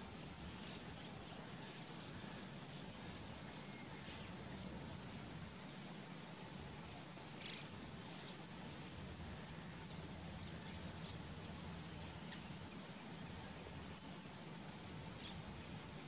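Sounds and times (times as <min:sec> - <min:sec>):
low background hum: 0:00.0 - 0:16.0
faint bird calls: 0:00.1 - 0:08.5, 0:09.2 - 0:13.9, 0:15.0 - 0:16.0.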